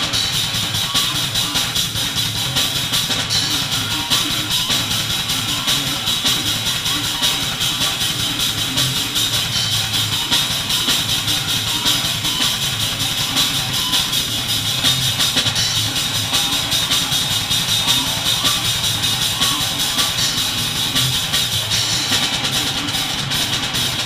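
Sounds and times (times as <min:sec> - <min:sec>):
death metal band playing live: 0:00.0 - 0:24.0
fast drum strikes: 0:00.0 - 0:24.0.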